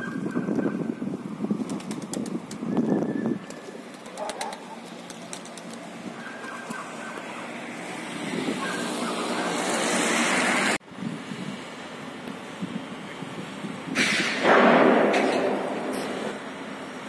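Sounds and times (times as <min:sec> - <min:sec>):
passing vehicle engine and tyres: 0:00.9 - 0:17.0.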